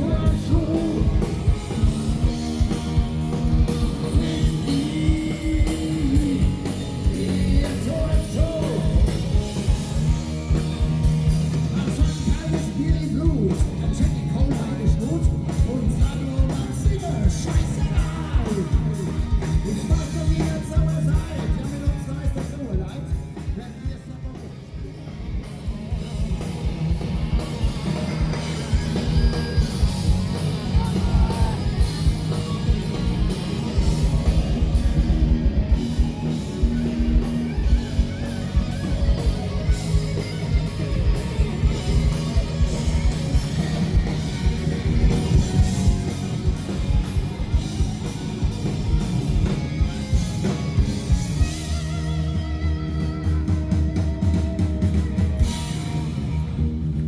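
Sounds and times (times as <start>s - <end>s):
drum kit steady beat: 0.0s - 57.0s
electric guitar: 0.0s - 57.0s.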